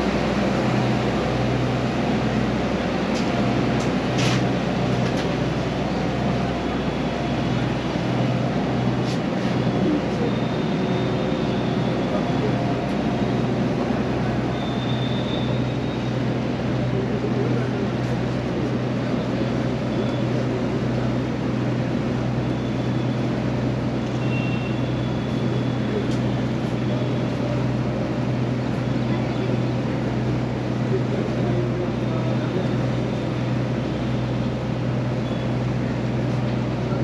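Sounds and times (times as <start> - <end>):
ferry engine humming: 0.0 - 37.0.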